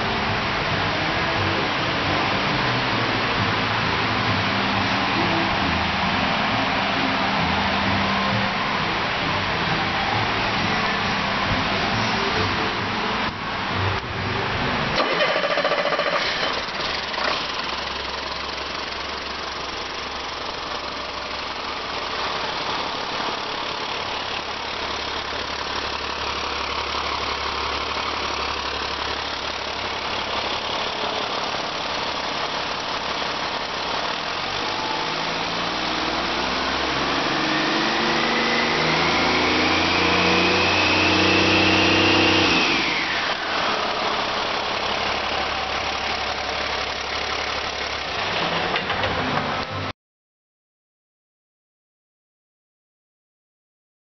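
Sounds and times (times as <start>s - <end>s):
diesel engine idling and revving: 0.0s - 49.9s.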